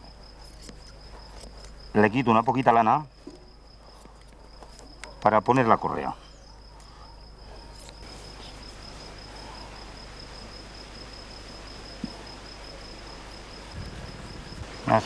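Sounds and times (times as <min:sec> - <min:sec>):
faint outdoor background noise: 0:00.0 - 0:15.0
insect trilling: 0:00.0 - 0:15.0.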